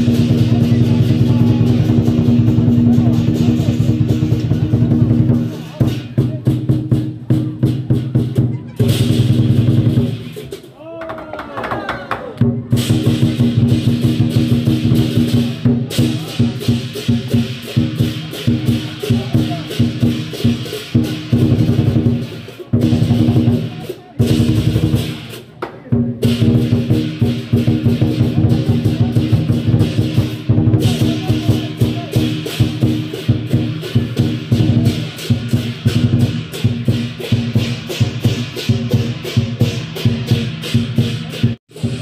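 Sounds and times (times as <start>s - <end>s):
cymbals crashing: 0.0s - 10.8s, 12.7s - 25.6s, 26.2s - 42.0s
large drum beating: 0.0s - 42.0s.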